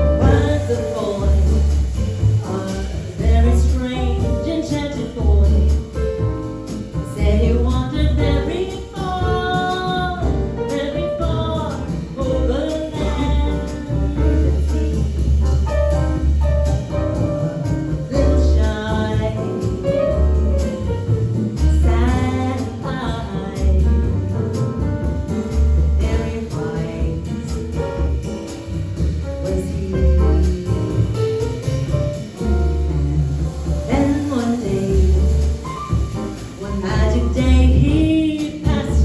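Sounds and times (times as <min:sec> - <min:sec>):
drums: 0:00.0 - 0:39.0
piano: 0:00.0 - 0:39.0
upright bass: 0:00.0 - 0:39.0.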